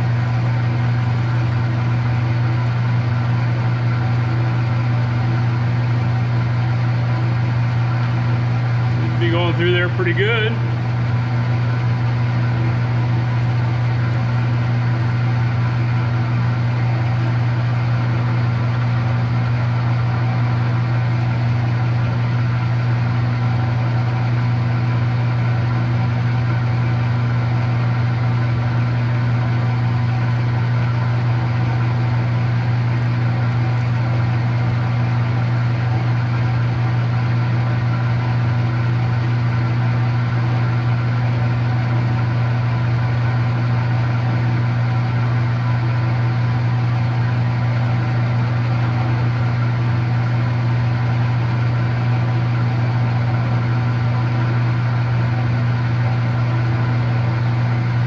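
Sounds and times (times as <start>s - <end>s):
metal-working machine humming and whining: 0.0s - 58.0s.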